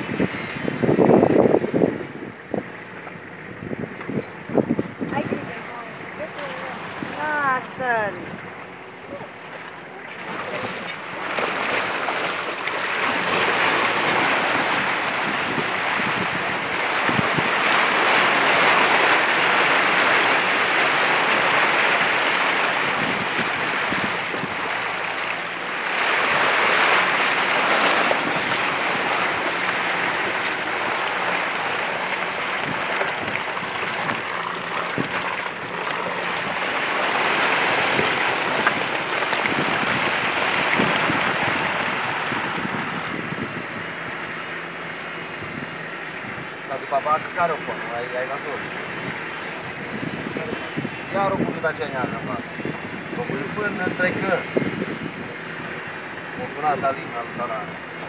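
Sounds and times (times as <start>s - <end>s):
wind at open window: 0.0s - 58.0s
tyres rushing through wet mud: 2.4s - 58.0s.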